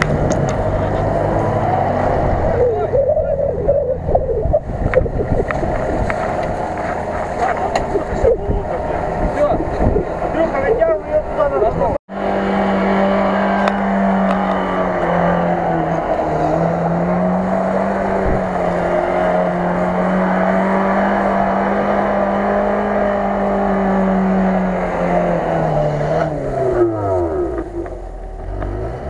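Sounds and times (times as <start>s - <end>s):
car engine at high revs: 0.0s - 29.0s.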